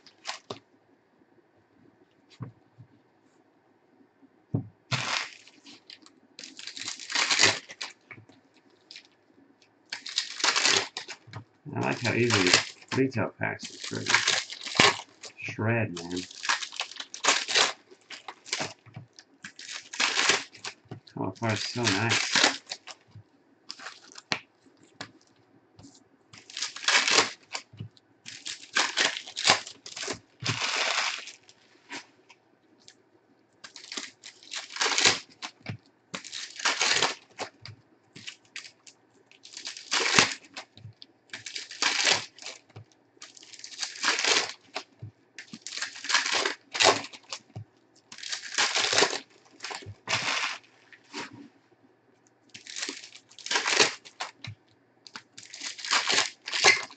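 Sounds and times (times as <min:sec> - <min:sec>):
plastic wrappers tearing: 0:00.0 - 0:00.6, 0:04.9 - 0:09.2, 0:09.9 - 0:23.1, 0:23.7 - 0:25.3, 0:26.4 - 0:32.2, 0:33.6 - 0:51.4, 0:52.5 - 0:56.9.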